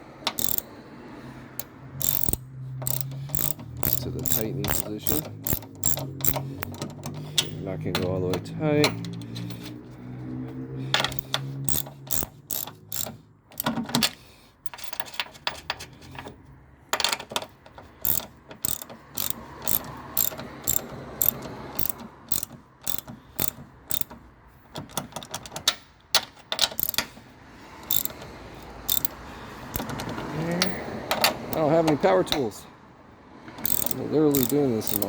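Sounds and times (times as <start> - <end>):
ratchet wrench clicking: 0.2 - 0.7, 1.5 - 9.7, 11.0 - 15.8, 17.8 - 27.2, 27.8 - 32.4, 33.5 - 35.0.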